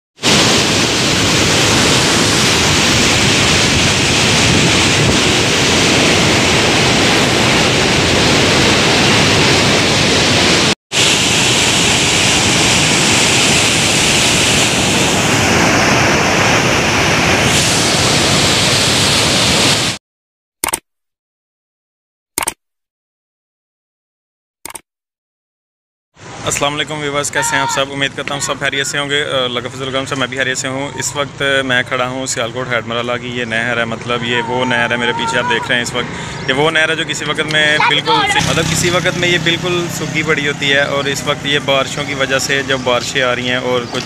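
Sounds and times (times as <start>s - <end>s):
floodwater rushing: 0.2s - 20.0s, 26.2s - 32.4s, 33.2s - 44.0s.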